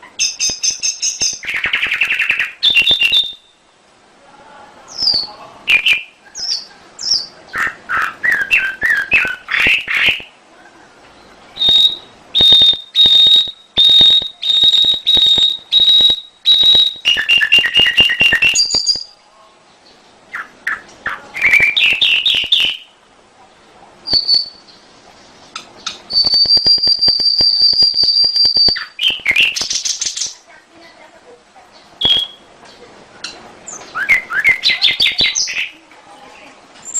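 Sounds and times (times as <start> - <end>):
canary singing: 0.0 - 3.7, 4.9 - 19.2, 19.8 - 23.0, 24.0 - 24.9, 25.5 - 30.6, 31.7 - 36.9.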